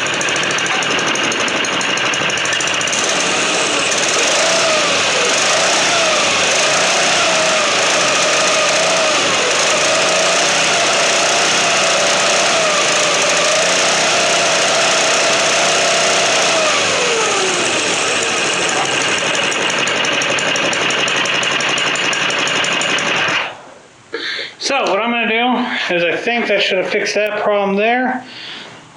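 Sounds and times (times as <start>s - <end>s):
mini bike engine running: 0.0s - 23.5s.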